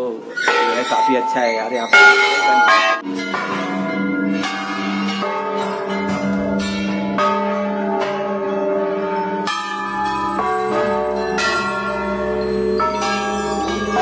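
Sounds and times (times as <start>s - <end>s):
brass bells ringing: 0.4s - 14.0s.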